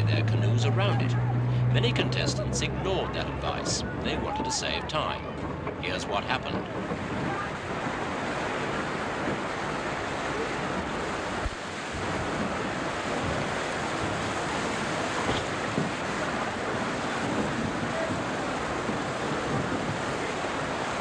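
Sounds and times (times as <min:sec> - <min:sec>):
river water rushing over weir: 0:00.0 - 0:21.0.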